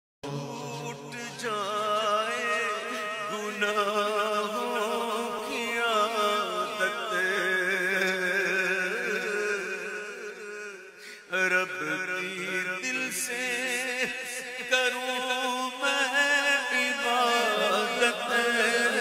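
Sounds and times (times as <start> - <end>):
man singing unaccompanied: 0.2 - 19.0.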